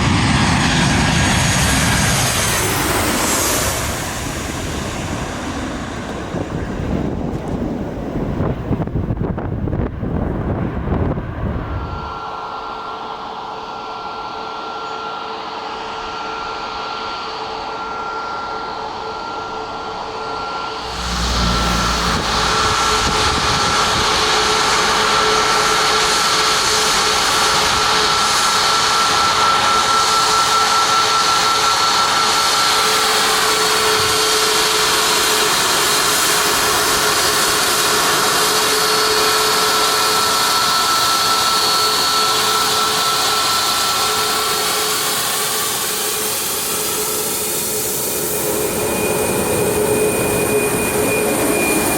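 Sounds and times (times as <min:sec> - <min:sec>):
jet engines spooling up: 0:00.0 - 0:07.9, 0:16.5 - 0:51.9.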